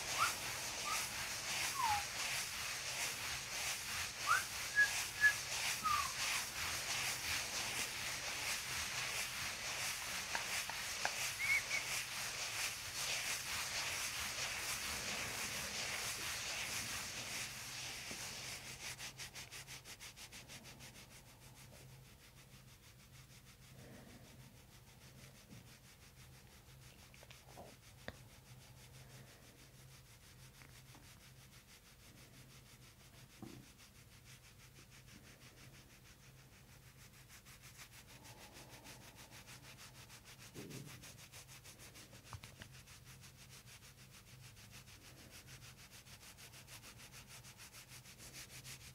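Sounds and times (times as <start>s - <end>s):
hands rubbing on skin and fabric: 0.0s - 48.9s.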